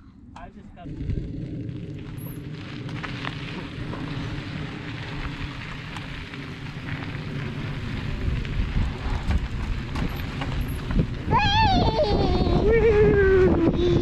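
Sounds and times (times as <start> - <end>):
low rumble: 0.0 - 14.0
bike clicks and rattles: 0.4 - 13.1
bike tyres rolling on gravel: 0.7 - 14.0.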